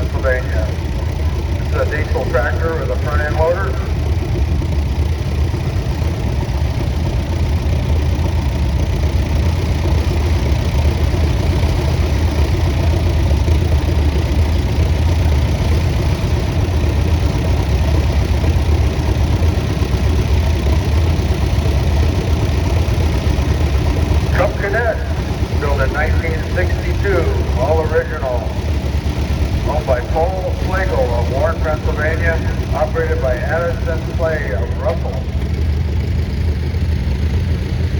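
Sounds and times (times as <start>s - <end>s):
diesel tractor engine running: 0.0s - 37.9s.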